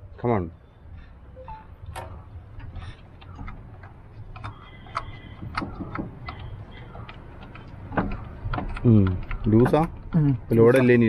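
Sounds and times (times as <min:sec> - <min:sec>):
fuel pump lever clicks and knocks: 0:01.9 - 0:11.0.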